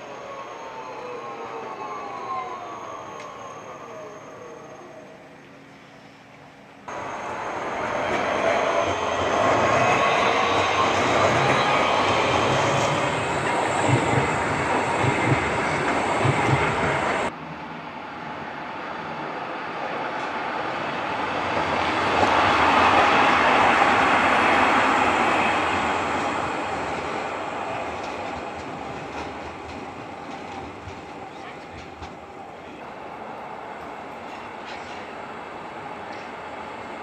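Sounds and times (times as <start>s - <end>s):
tram rumbling past: 0.0s - 37.0s.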